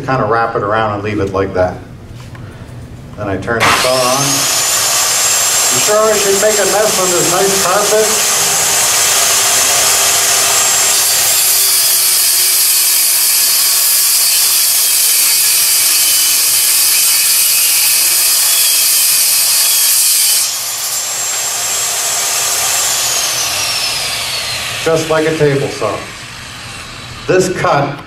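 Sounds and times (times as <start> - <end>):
circular saw cutting board: 3.6 - 27.6.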